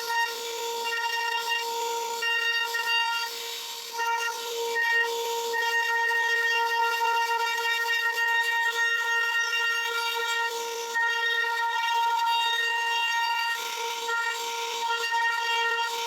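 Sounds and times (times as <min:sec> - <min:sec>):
router spindle whine cutting wood: 0:00.0 - 0:16.0.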